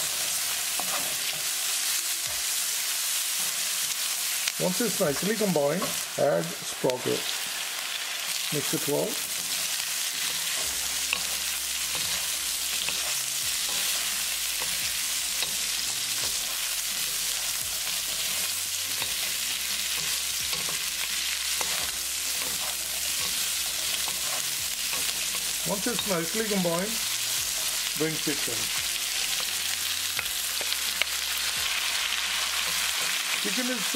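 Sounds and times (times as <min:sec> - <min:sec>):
vegetables sizzling in hot oil: 0:00.0 - 0:33.9.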